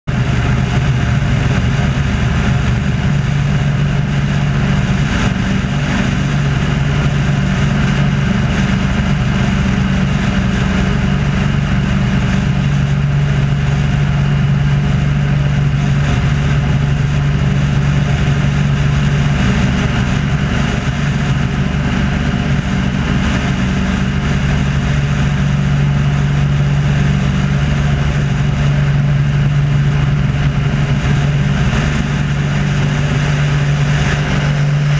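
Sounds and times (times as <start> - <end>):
propeller plane engine drone: 0.0 - 34.9.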